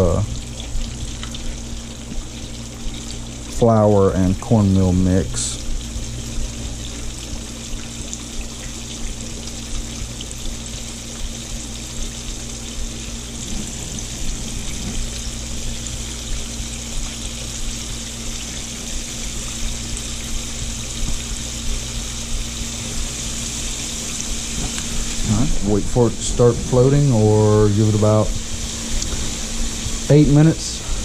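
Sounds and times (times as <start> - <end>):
fish deep-frying in hot oil: 0.0 - 31.0
low hum: 0.0 - 31.0.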